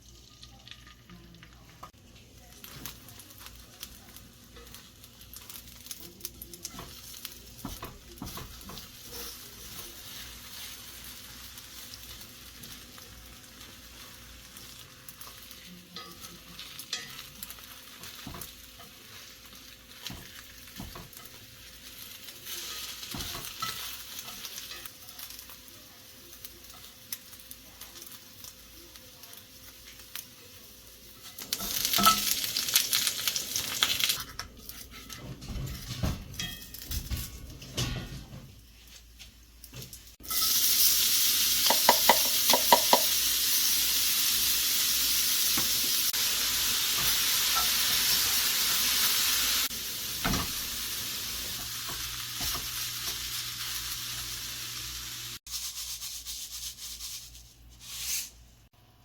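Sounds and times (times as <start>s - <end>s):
food sizzling in a frying pan: 0.0s - 58.8s.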